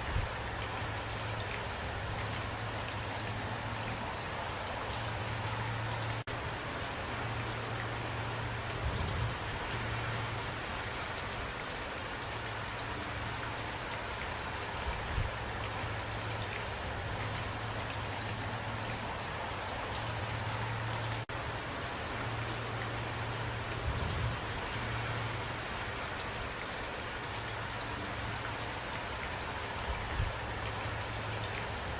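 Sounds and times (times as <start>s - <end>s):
rain falling: 0.0s - 31.9s.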